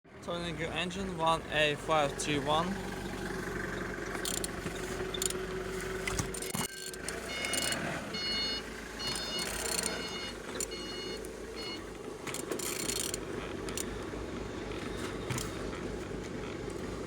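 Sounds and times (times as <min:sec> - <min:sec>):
engine scraping and clicking: 0:00.2 - 0:17.0.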